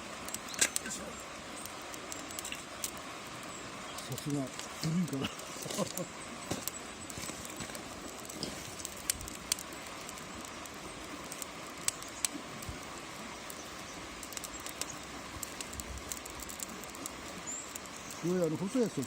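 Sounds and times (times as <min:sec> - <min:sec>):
kindling fire crackling: 0:00.0 - 0:19.0
steady rushing hiss: 0:00.0 - 0:19.0.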